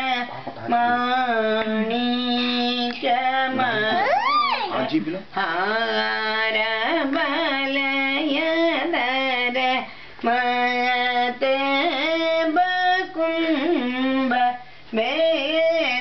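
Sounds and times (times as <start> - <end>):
woman singing: 0.0 - 4.7, 5.4 - 16.0.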